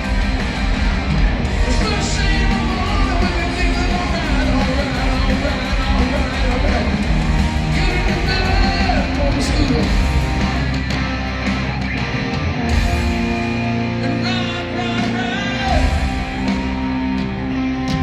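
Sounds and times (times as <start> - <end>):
electric guitar: 0.0 - 18.0
hard rock band playing: 0.0 - 18.0.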